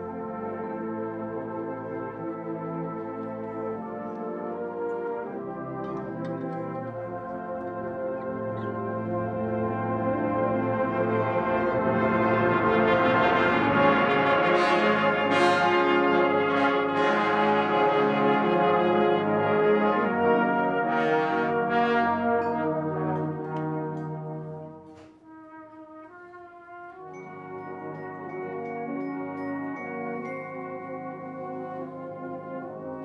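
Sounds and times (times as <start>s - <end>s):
brass band playing hymn-like tune: 0.0s - 33.0s.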